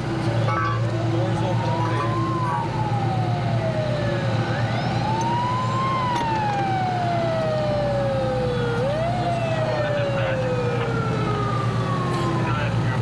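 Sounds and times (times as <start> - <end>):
emergency siren wailing: 0.0 - 13.0
low engine drone: 0.0 - 13.0.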